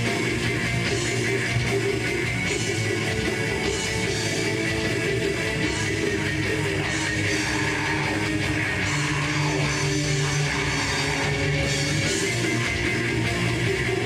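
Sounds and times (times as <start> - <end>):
distorted electric guitars: 0.0 - 14.0
drum kit: 0.0 - 14.0.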